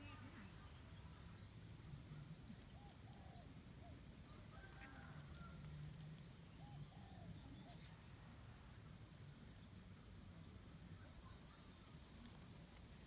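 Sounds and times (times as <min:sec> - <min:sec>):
fainter lower bird calls: 0:00.0 - 0:12.7.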